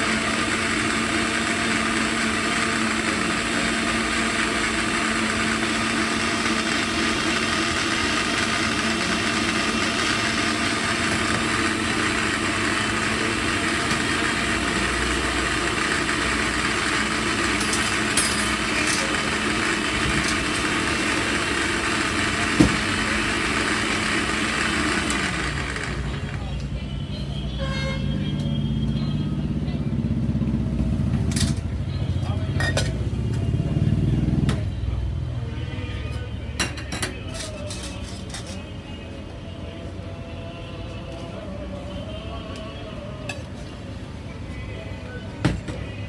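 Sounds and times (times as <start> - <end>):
idling engines and traffic hum: 0.0 - 46.0.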